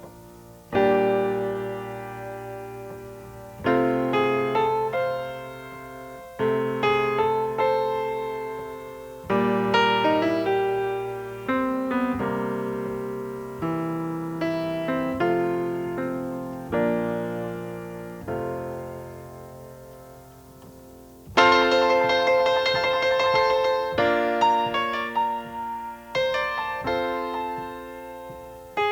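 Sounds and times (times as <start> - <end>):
slow solo piano piece: 0.0 - 28.9.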